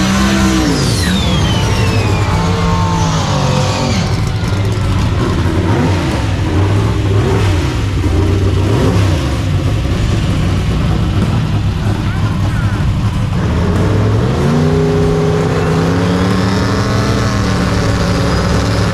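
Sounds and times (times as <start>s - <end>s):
drag car engine revving: 0.0s - 18.9s
high whine falling in pitch: 0.0s - 18.9s.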